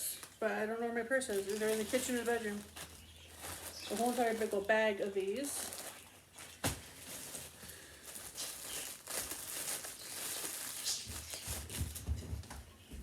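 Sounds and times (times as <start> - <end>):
bag rustling and crinkling: 0.0 - 12.5.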